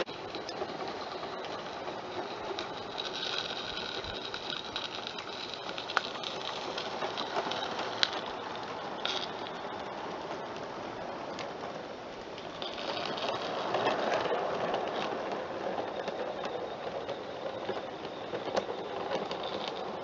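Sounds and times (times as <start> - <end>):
steam locomotive hissing: 0.0 - 20.0.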